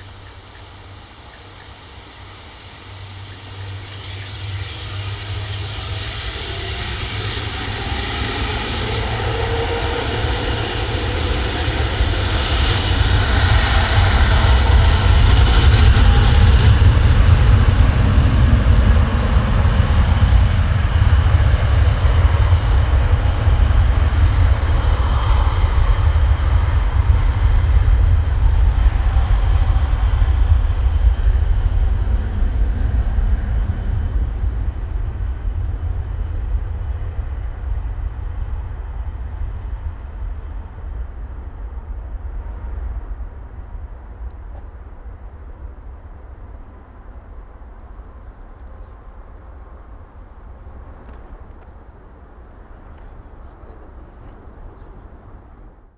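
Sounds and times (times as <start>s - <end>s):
jet engine roar: 0.0s - 55.9s.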